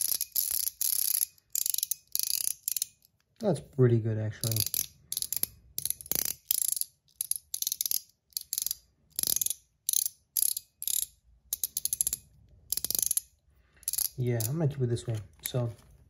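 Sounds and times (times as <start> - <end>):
spinner ring ratcheting clicks: 0.0 - 3.3, 4.4 - 14.6.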